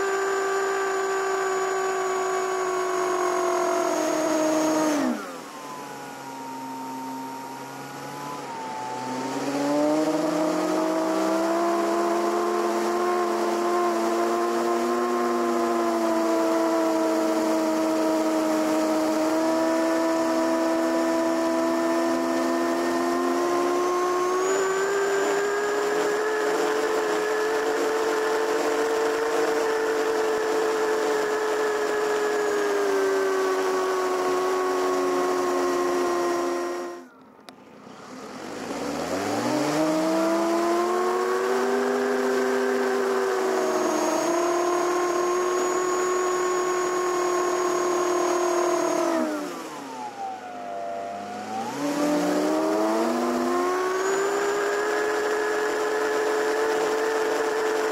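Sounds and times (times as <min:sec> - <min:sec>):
electric motor and propeller whining: 0:00.0 - 0:57.9.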